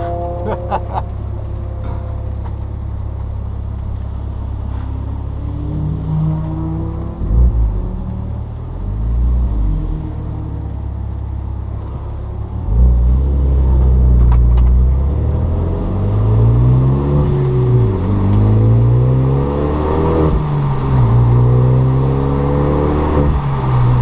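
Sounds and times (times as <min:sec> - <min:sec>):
car engine accelerating through gears: 0:00.0 - 0:24.0.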